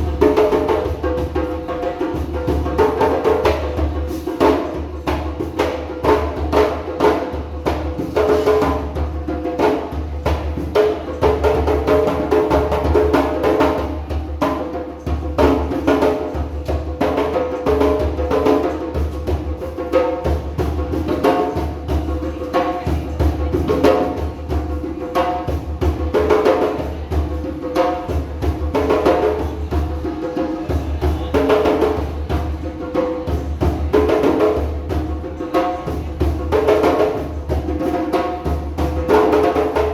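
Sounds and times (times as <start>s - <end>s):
djembe drums playing: 0.0s - 39.9s.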